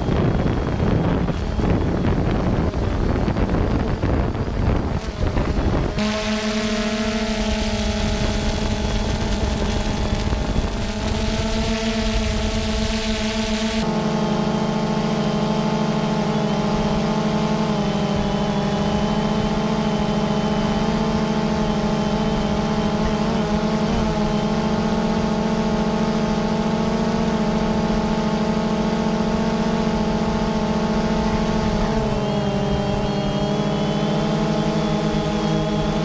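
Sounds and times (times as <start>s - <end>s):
quadcopter rotors whirring: 0.0s - 36.0s.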